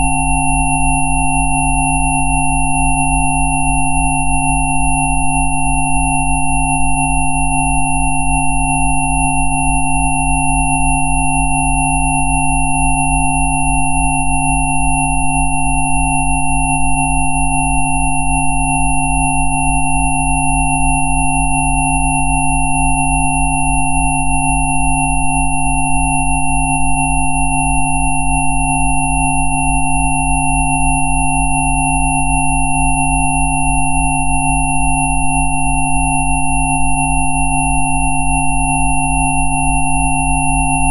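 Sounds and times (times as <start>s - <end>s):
mid-range sine tones: 0.0s - 40.9s.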